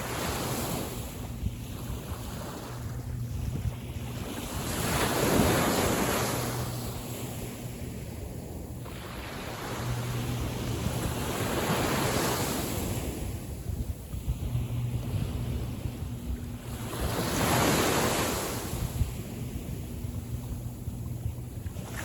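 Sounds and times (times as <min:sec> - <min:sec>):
small waves breaking: 0:00.0 - 0:22.0
wind buffeting microphone: 0:00.0 - 0:22.0.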